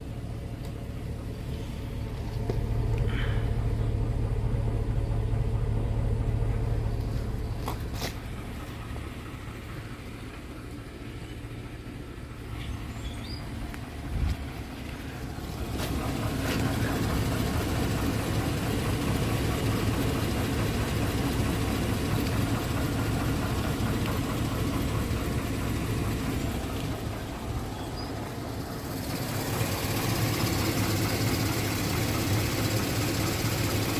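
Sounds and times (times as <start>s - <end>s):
vehicle engine running: 0.0s - 33.9s.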